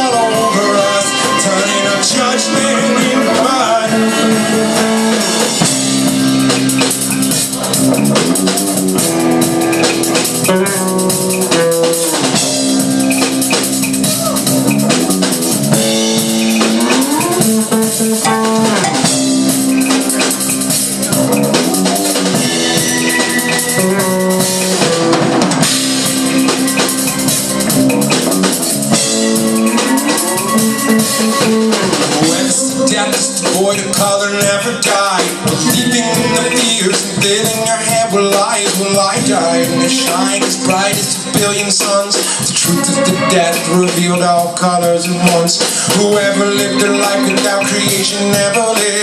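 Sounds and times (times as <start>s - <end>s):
drum kit: 0.0s - 49.0s
electric guitars: 0.0s - 49.0s
sliding guitar lines: 0.0s - 49.0s.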